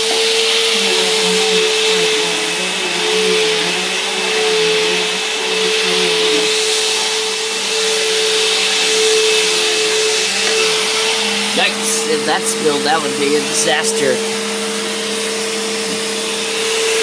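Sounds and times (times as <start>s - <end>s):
upright vacuum running on carpet: 0.0s - 17.0s.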